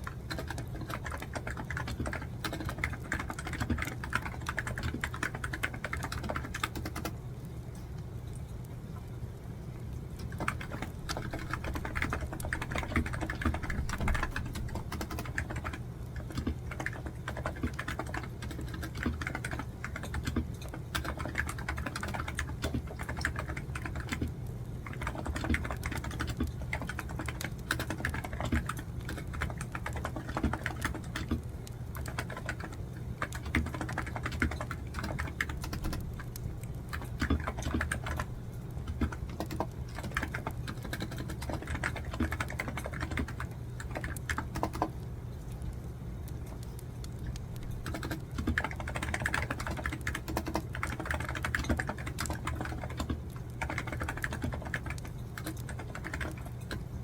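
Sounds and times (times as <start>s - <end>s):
low background hum: 0.0s - 57.0s.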